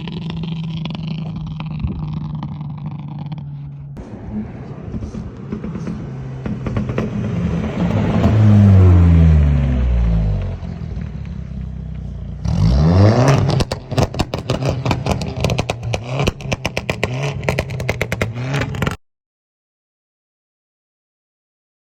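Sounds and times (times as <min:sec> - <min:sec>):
car engine revving: 0:00.0 - 0:19.0
exhaust pops and crackles: 0:00.0 - 0:19.0.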